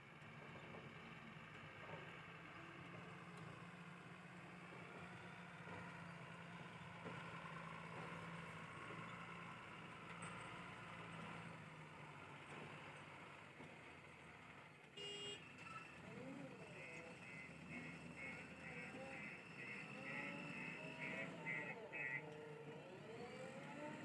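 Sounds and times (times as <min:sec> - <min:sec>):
faint diesel engine hum: 0:00.0 - 0:24.0.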